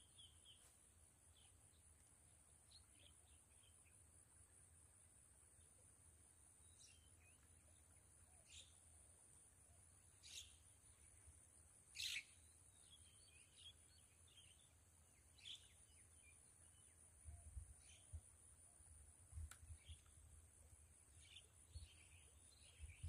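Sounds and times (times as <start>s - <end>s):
faint high-pitched whine: 0.0s - 23.0s.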